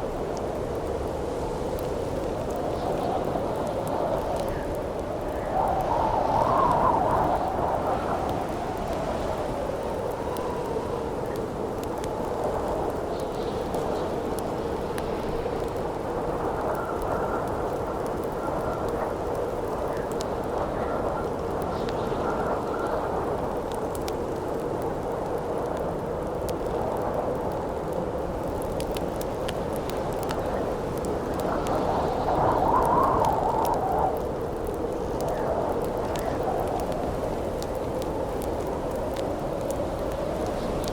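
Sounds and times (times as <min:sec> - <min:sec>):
campfire crackling and popping: 0:00.0 - 0:40.9
wind howling: 0:00.0 - 0:40.9.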